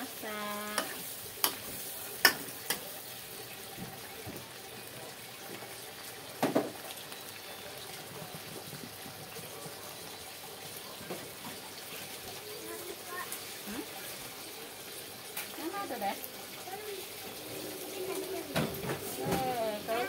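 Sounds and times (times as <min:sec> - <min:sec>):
vegetables simmering and sizzling: 0:00.0 - 0:20.0.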